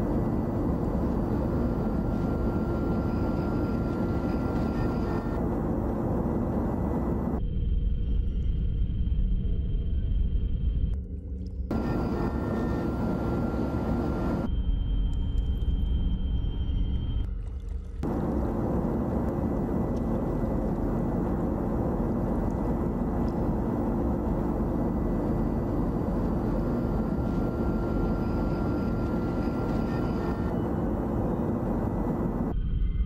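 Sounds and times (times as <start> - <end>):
low hum: 0.0 - 33.0
steady rumbling drone: 0.0 - 33.0.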